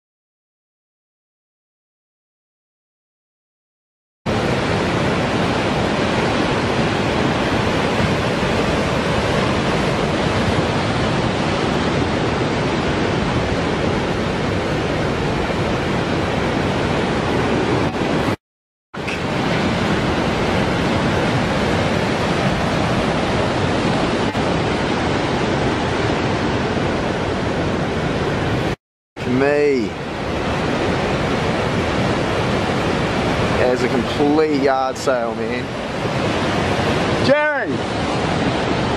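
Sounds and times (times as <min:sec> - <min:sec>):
heavy surf breaking: 0:04.3 - 0:18.4, 0:19.0 - 0:38.9.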